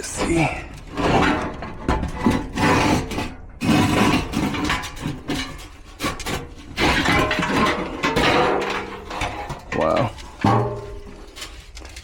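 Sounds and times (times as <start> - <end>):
scraping and knocking of metal assembly: 0.7 - 12.0.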